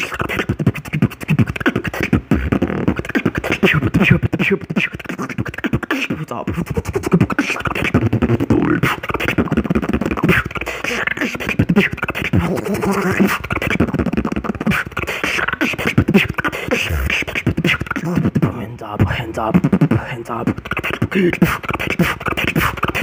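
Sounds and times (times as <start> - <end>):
person beatboxing: 0.0 - 23.0.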